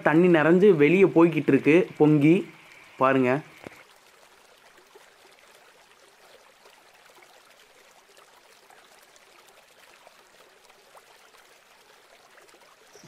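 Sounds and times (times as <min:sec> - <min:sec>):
floodwater rushing over ground: 0:00.0 - 0:13.0.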